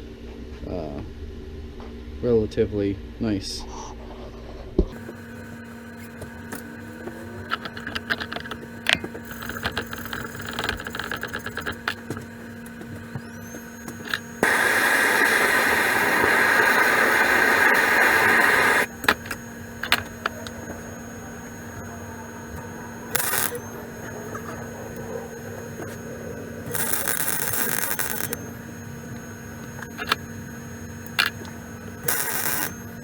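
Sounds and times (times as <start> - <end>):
welding arc hissing: 5.0 - 33.0.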